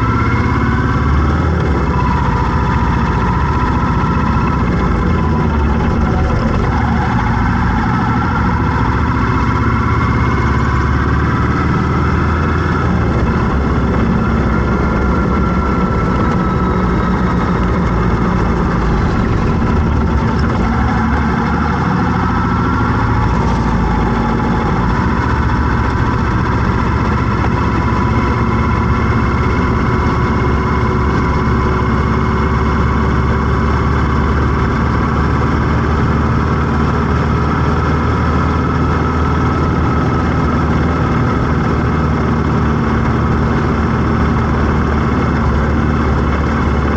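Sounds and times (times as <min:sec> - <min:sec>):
traffic drone: 0:00.0 - 0:46.9
vehicle engine running: 0:00.0 - 0:46.9.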